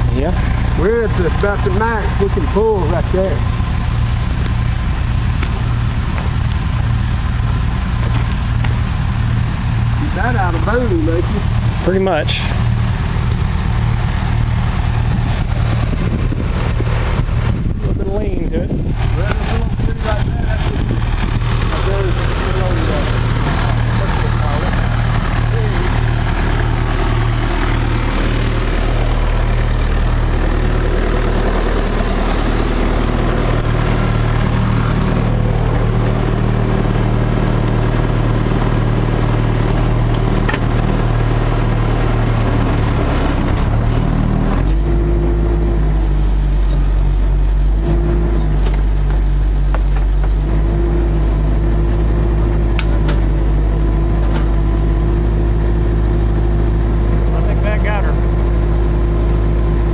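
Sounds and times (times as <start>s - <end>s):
excavator diesel engine under load: 0.0s - 59.9s.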